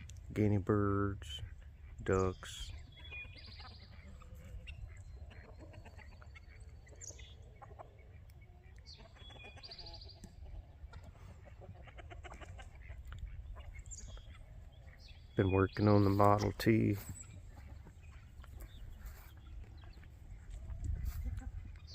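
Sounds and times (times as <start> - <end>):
poultry clucking: 0.0 - 21.9
high buzzy bird calls: 0.4 - 10.9, 12.0 - 21.9.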